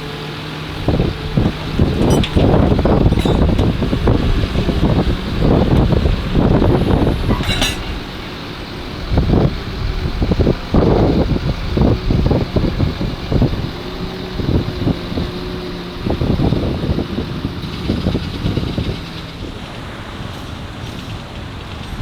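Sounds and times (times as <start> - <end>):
tractor engine running: 0.0 - 22.0
wind buffeting microphone: 0.0 - 22.0.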